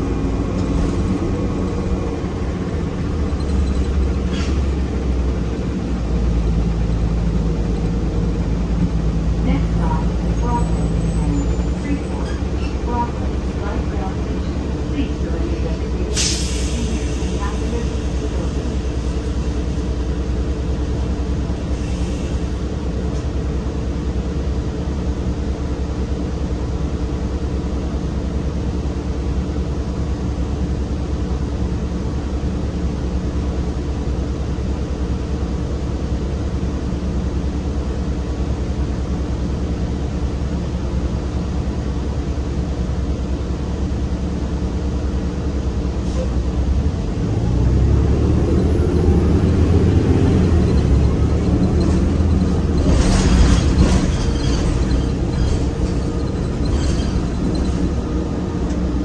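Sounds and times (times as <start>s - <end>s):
bus engine idling: 0.0s - 59.0s.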